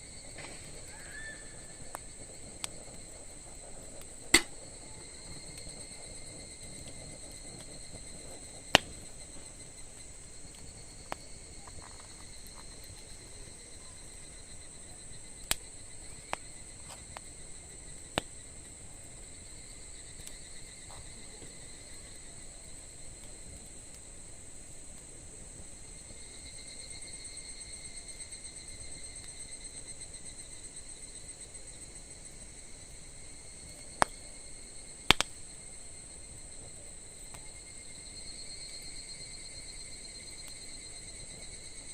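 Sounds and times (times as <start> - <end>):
burning wood popping: 0.0 - 27.0, 31.8 - 41.9
campfire burning: 0.0 - 41.9.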